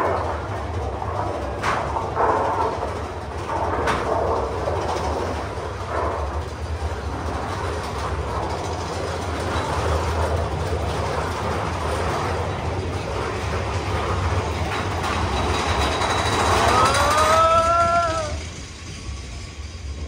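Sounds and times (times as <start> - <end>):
rail clatters: 0.0 - 20.0
rail vehicle rumble: 0.0 - 20.0.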